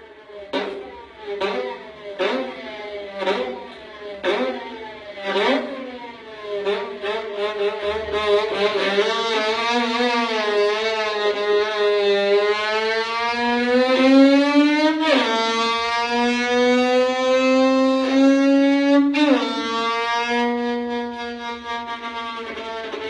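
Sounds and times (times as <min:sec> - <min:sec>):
violin imitating engine revving: 0:00.0 - 0:23.0.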